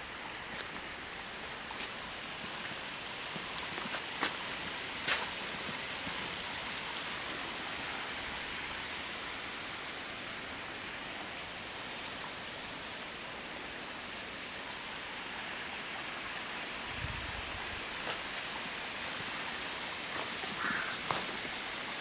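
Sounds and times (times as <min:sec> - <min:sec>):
forest ambience hiss: 0:00.0 - 0:22.0.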